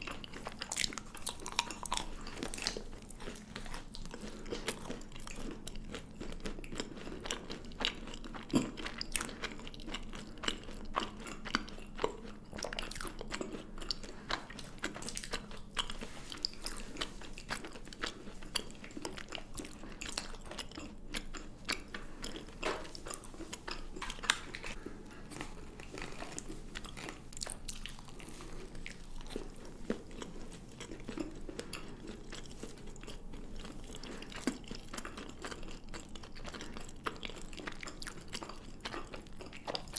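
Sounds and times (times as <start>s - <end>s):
chocolate crunching and chewing: 0.0s - 39.9s.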